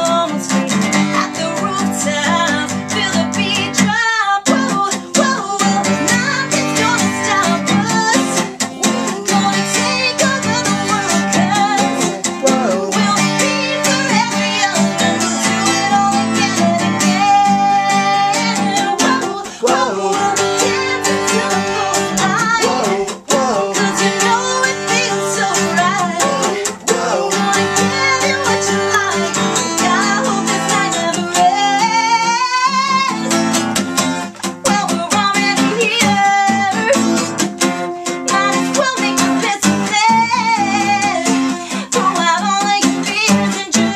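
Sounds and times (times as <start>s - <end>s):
woman singing: 0.0s - 33.6s, 34.4s - 43.9s
acoustic guitar strumming: 0.0s - 43.9s.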